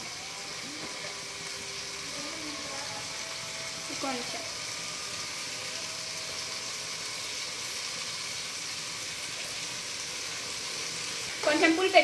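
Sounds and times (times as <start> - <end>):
tomatoes sizzling in oil: 0.0 - 12.0.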